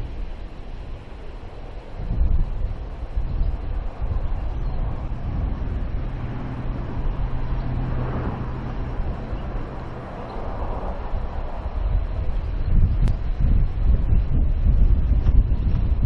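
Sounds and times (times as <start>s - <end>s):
vehicle motor hum: 0.0s - 16.0s
wind buffeting microphone: 0.0s - 16.0s.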